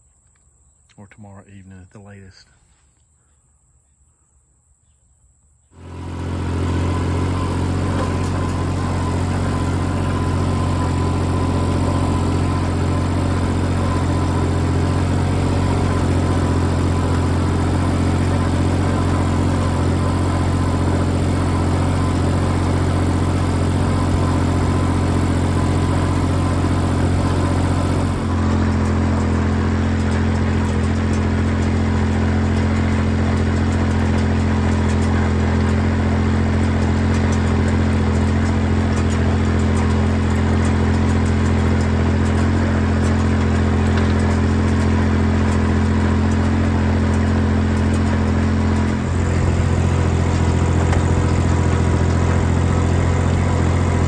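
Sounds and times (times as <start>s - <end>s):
tractor engine running under load: 5.8s - 54.0s.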